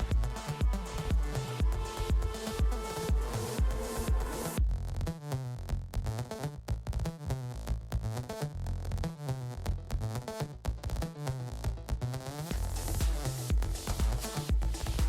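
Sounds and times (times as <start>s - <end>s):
electronic music with synth bass: 0.0s - 15.0s.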